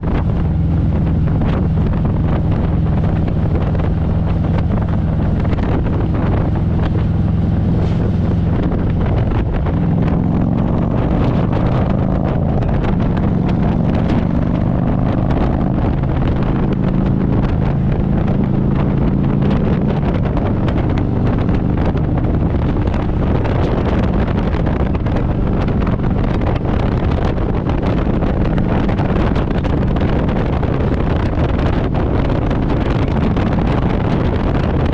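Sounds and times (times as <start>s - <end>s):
motorcycle engine running: 0.0s - 34.9s
wind buffeting microphone: 0.0s - 34.9s.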